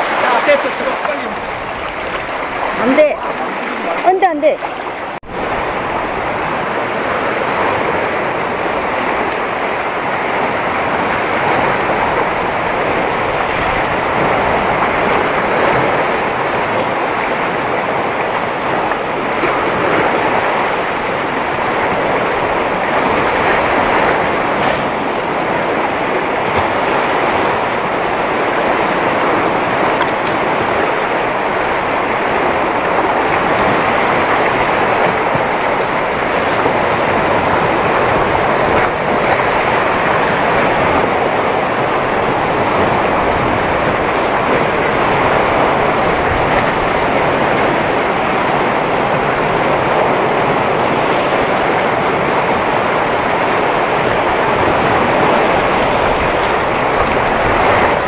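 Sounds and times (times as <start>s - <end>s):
waves breaking over rocks: 0.0s - 58.0s.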